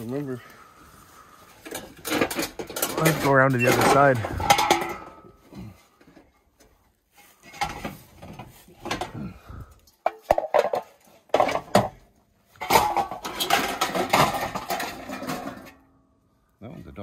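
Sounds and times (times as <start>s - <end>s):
metal hubcaps clattering: 1.1s - 6.3s, 7.1s - 16.0s.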